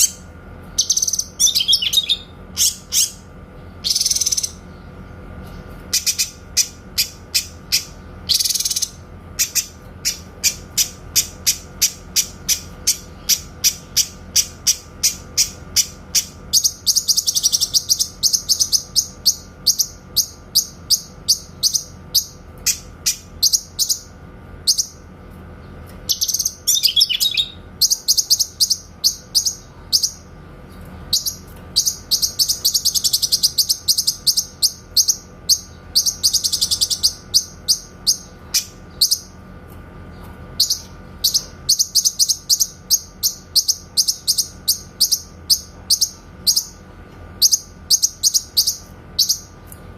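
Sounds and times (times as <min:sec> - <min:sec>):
songbird calling: 0:00.0 - 0:04.9, 0:05.5 - 0:25.0, 0:26.1 - 0:30.4, 0:31.1 - 0:39.4, 0:40.6 - 0:46.8, 0:47.4 - 0:49.6
rapid bird trills: 0:00.0 - 0:25.2, 0:26.0 - 0:39.5, 0:40.6 - 0:46.8, 0:47.4 - 0:49.6.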